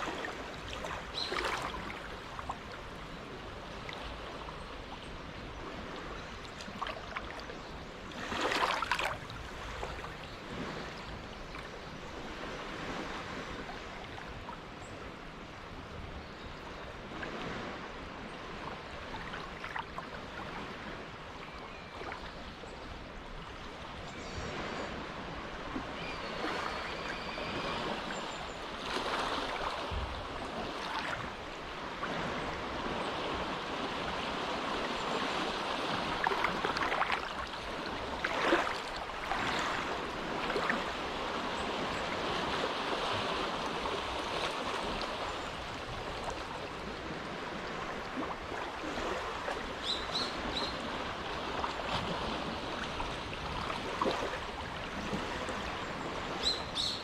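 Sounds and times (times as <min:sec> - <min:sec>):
small waves lapping at shore: 0:00.0 - 0:57.0.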